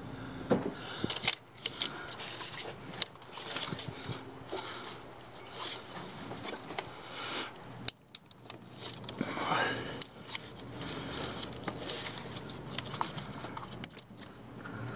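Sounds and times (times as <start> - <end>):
rustling of plastic wire looms: 0.9 - 7.0, 8.1 - 14.3.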